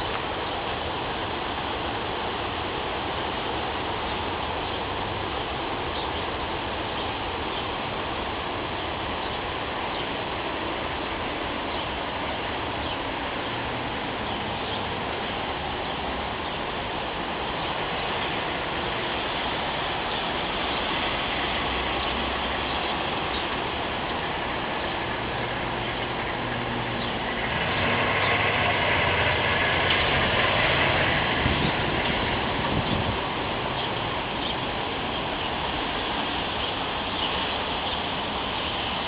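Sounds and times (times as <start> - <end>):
wind and rain hissing: 0.0 - 39.0.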